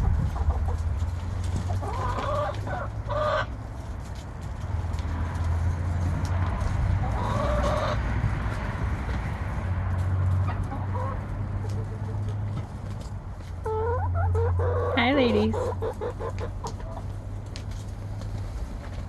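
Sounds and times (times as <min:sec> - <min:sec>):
hens clucking: 0:00.0 - 0:04.2, 0:06.2 - 0:19.0.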